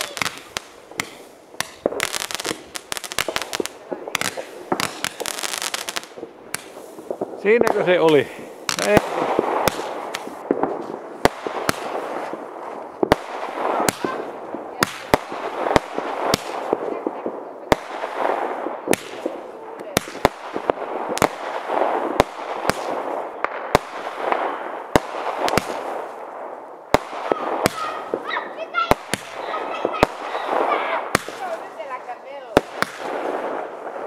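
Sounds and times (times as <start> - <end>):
fireworks banging: 0.0 - 34.0
fireworks crackling hiss: 0.0 - 34.0.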